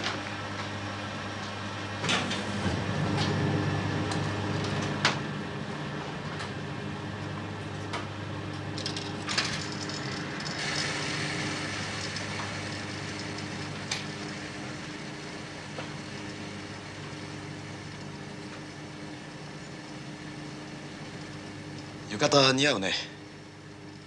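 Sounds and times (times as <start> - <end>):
laundry machines humming: 0.0 - 24.0.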